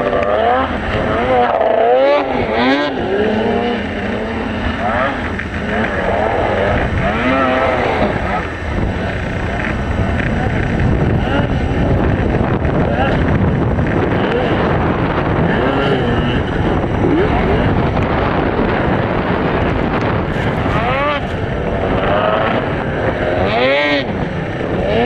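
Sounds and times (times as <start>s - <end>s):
snowmobile engines revving: 0.0s - 25.0s
wind noise on microphone: 0.0s - 25.0s.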